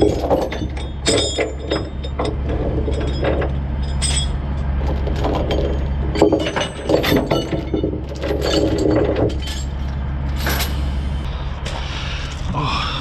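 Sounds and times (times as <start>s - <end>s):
chain clinking on wooden deck: 0.0s - 10.9s
steady low hum: 0.0s - 13.0s.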